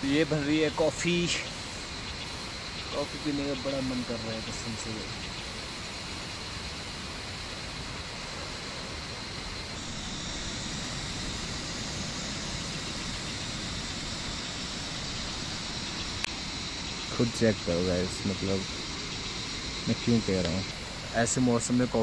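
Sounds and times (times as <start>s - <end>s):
camping stove burner hissing: 0.0s - 22.0s.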